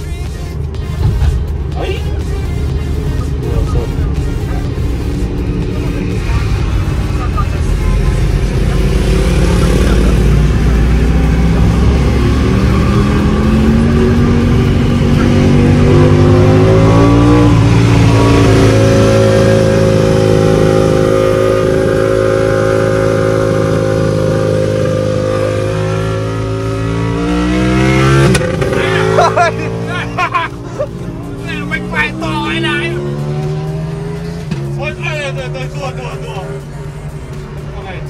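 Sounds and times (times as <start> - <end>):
motorcycle engine accelerating: 3.2 - 37.3.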